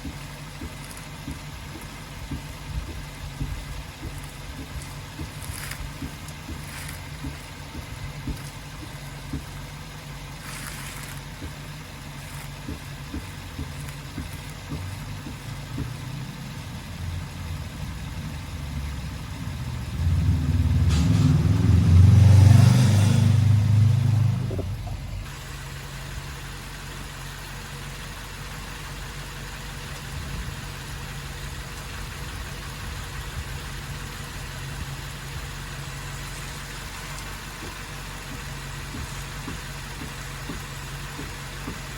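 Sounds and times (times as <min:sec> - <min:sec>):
car engine running and revving: 0:00.0 - 0:41.9.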